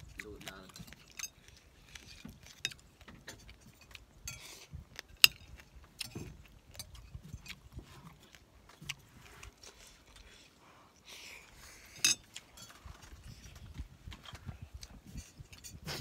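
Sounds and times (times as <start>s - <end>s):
chewing and mouth noises: 0.0s - 16.0s.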